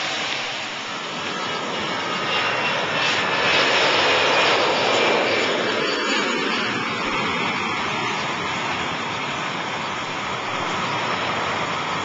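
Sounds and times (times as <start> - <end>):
jet airliner taking off: 0.0 - 12.0.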